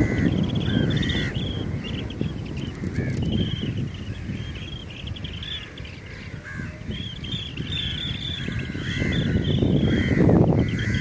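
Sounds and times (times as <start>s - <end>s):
birds chirping: 0.0s - 11.0s
harsh bird calls: 0.0s - 11.0s.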